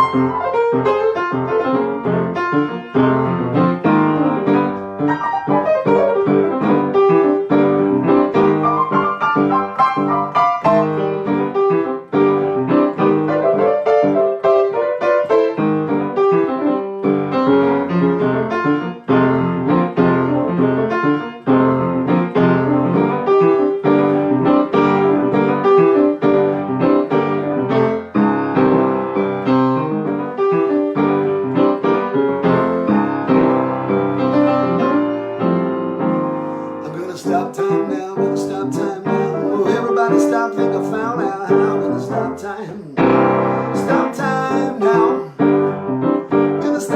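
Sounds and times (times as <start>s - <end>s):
solo piano playing: 0.0s - 46.9s.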